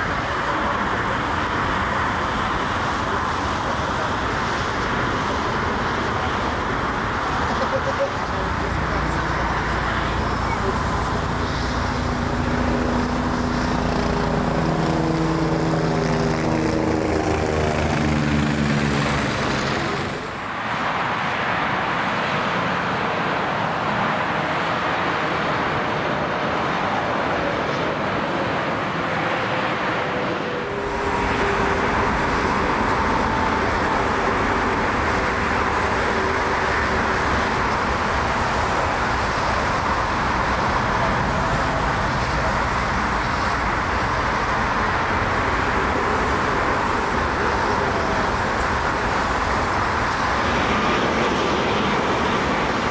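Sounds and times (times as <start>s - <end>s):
airliner low overhead: 0.0s - 52.9s
airliner touching down on wet runway: 0.0s - 52.9s
jet engine passing: 0.0s - 52.9s
motorway traffic rushing: 0.0s - 52.9s.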